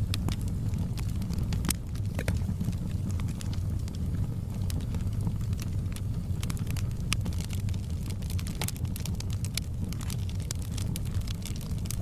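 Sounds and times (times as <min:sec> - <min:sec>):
low rumble of burning logs: 0:00.0 - 0:12.0
sharp pops of fire: 0:00.0 - 0:12.0
wood fire crackling: 0:00.0 - 0:12.0.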